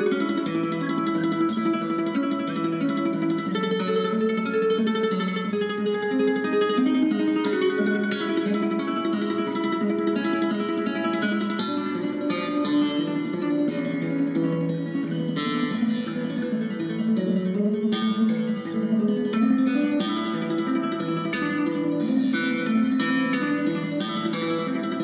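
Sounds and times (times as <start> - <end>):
plucked acoustic guitar: 0.0 - 25.0.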